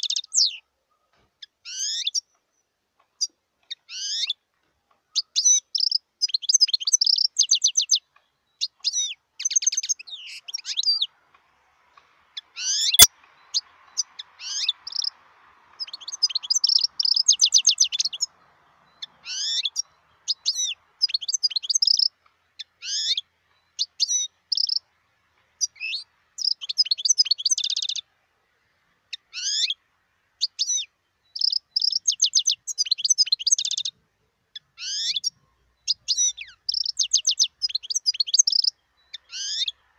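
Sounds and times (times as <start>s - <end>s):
goldfinch twittering song: 1.4s - 4.4s, 5.1s - 11.1s, 12.3s - 28.1s, 29.1s - 39.8s.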